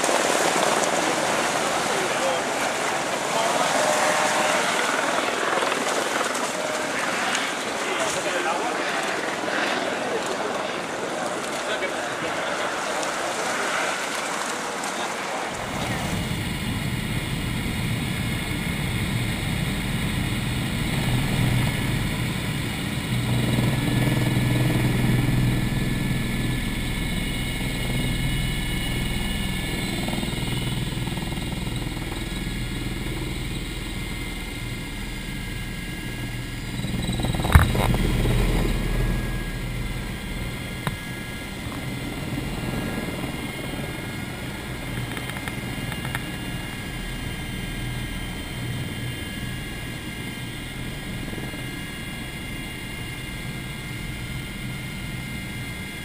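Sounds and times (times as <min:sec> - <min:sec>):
helicopter engine and rotor thrum: 0:00.0 - 0:56.0.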